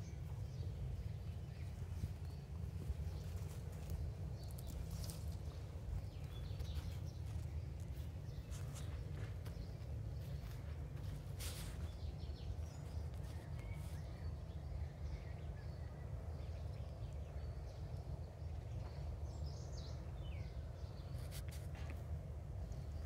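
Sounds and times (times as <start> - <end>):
steady low rumble: 0.0 - 21.2.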